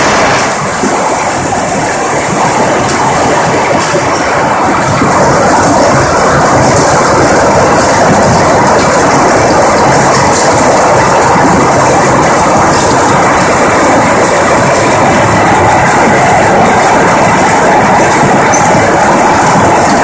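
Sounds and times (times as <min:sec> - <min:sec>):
hailstones clattering: 0:00.0 - 0:20.0
heavy rain: 0:00.0 - 0:20.0.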